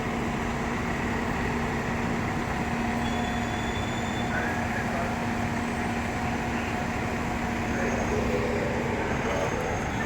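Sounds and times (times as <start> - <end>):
city street noise: 0.0 - 10.0
fire trucks idling: 0.0 - 10.0.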